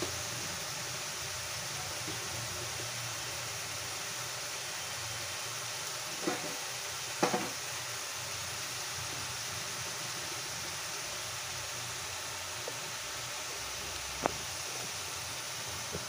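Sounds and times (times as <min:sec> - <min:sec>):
stove sizzling hiss: 0:00.0 - 0:16.0.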